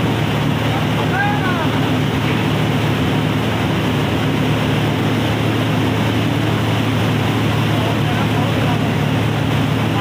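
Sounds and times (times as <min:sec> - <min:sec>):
rice mill machine drone: 0:00.0 - 0:10.0.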